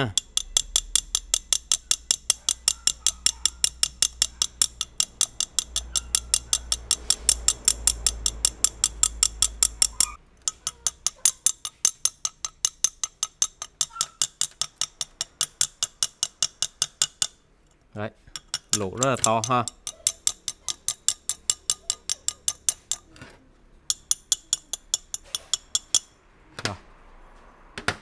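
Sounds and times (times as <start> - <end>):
nail tapping on nail: 0.0 - 17.4, 18.3 - 23.1, 23.9 - 26.1.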